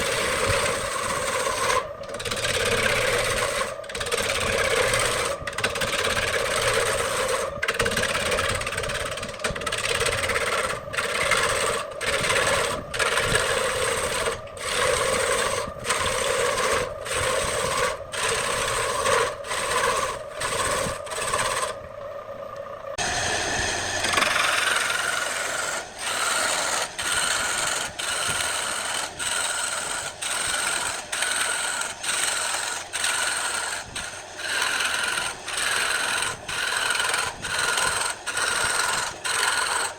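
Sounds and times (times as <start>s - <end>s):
tool scraping spinning wood: 0.0s - 39.9s
wood lathe turning: 0.0s - 39.9s.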